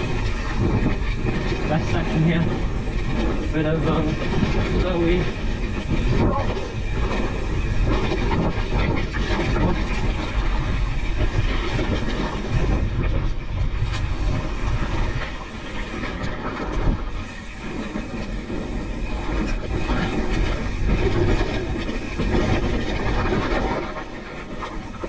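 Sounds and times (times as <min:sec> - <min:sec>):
bike rattling: 0:00.0 - 0:25.0.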